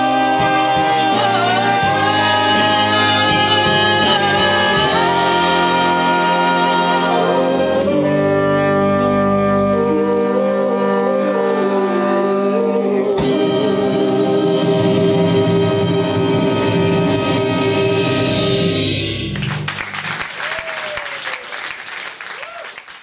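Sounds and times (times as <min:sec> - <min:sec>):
person singing: 0:00.0 - 0:18.6
choir holding chords: 0:00.0 - 0:19.7
horn band with keyboard: 0:00.0 - 0:20.2.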